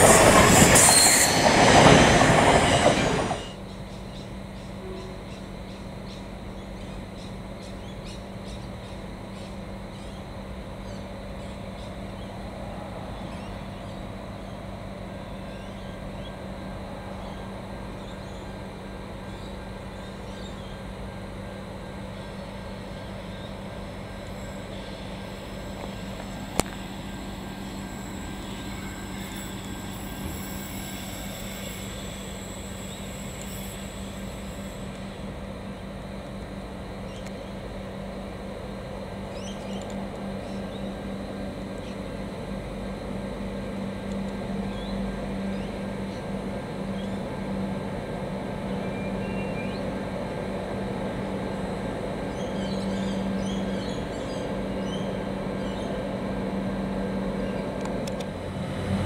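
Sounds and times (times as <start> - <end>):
diesel railcar idling: 0.0 - 5.4, 11.4 - 59.0.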